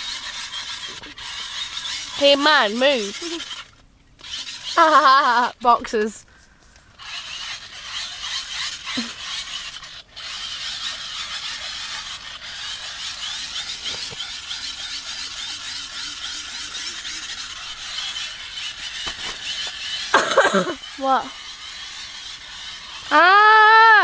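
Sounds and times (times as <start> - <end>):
hand-cranked dynamo torch whirring: 0.0 - 6.0, 6.9 - 24.0.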